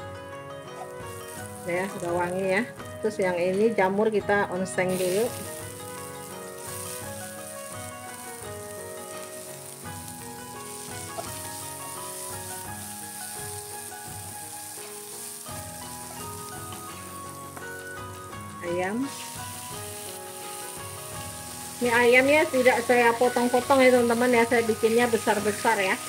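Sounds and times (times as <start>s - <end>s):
soft background music: 0.0s - 26.0s
food sizzling in hot oil: 0.5s - 26.0s.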